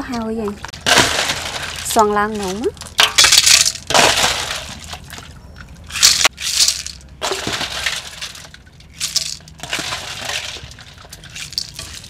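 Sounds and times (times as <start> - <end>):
ice cubes clinking and crunching: 0.8 - 5.2, 5.9 - 12.0.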